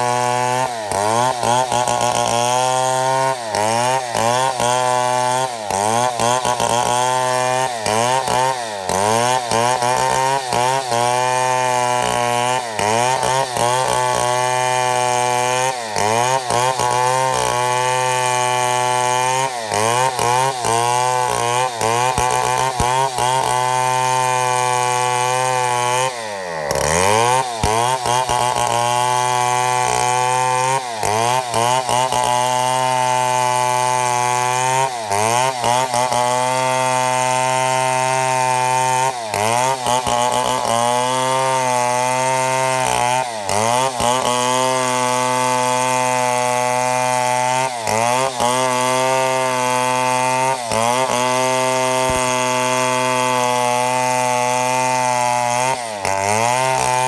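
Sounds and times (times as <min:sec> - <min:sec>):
chainsaw milling a log: 0:00.0 - 0:57.0.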